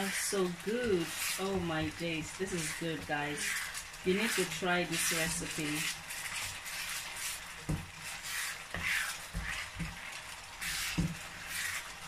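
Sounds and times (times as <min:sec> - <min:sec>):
spoon scraping frying pan: 0:00.0 - 0:12.0.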